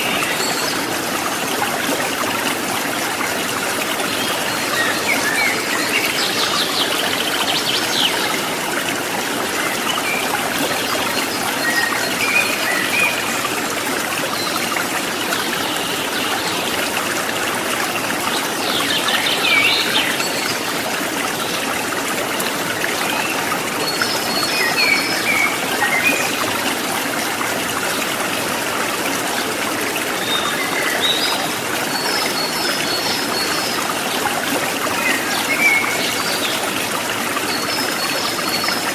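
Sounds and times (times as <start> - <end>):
stream water splashing over rocks: 0.0 - 38.9.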